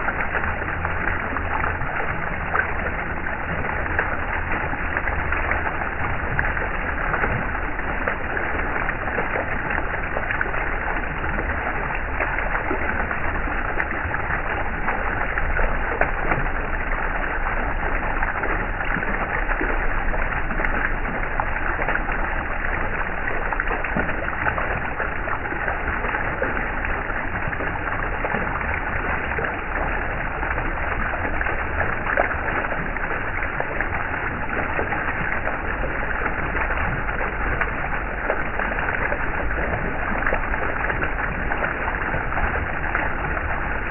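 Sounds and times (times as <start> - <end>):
stream water flowing: 0.0 - 43.9.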